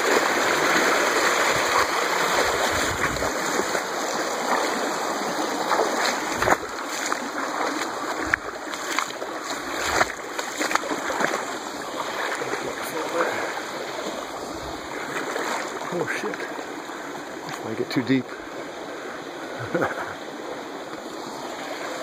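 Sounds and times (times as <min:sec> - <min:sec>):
water sloshing around wading legs: 0:00.0 - 0:17.8.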